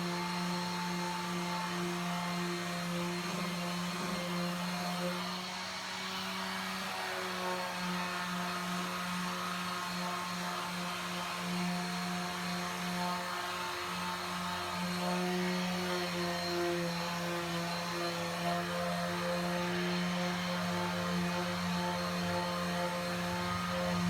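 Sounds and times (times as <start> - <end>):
electric sander on painted wood: 0.0 - 24.0.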